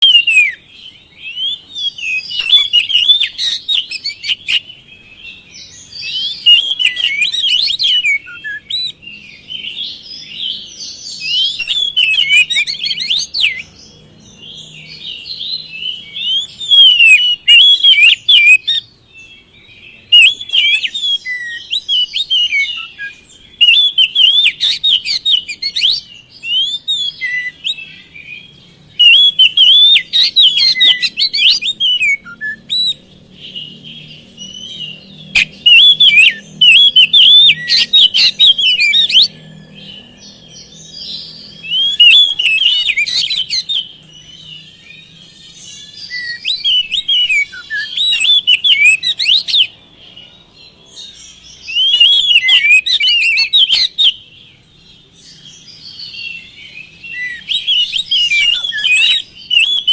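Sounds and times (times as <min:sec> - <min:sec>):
magpie-robin singing rapid high notes: 0:00.0 - 0:49.8, 0:51.2 - 0:54.3, 0:55.2 - 0:59.9.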